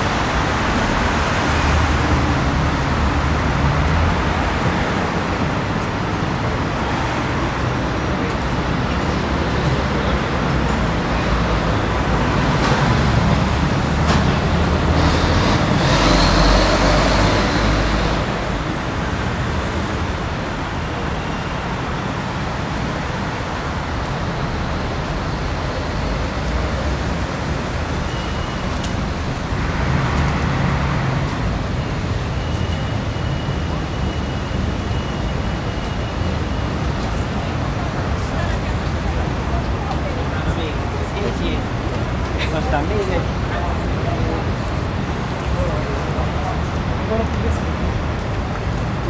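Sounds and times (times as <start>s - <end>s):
city street traffic: 0.0s - 49.0s.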